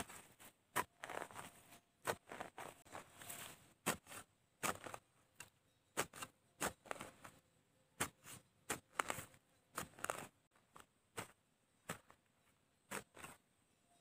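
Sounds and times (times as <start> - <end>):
spade striking soil: 0.0 - 7.4, 8.0 - 13.4
soil and roots crumbling: 0.0 - 13.6.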